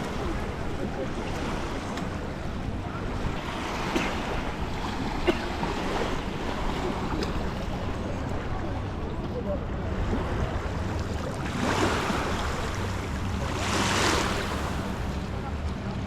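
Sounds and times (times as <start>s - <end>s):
water noise: 0.0s - 16.0s.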